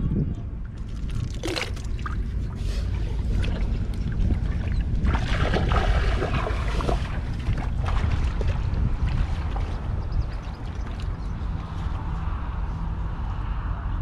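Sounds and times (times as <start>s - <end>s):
wind rumbling on microphone: 0.0s - 14.0s
water splashing and sloshing: 0.6s - 12.1s.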